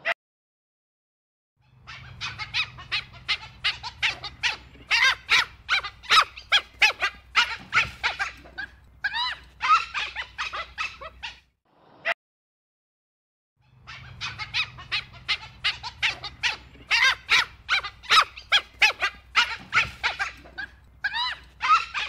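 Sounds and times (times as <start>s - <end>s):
wild dogs squeaking calls: 1.6s - 11.5s, 13.6s - 22.0s.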